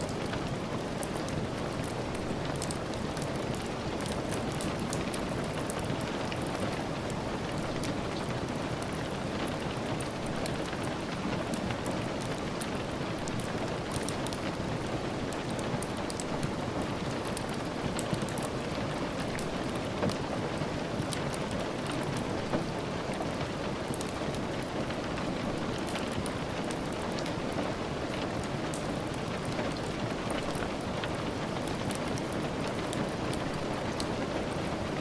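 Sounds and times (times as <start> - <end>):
rain tapping: 0.0 - 35.0
wood fire crackling: 0.0 - 35.0.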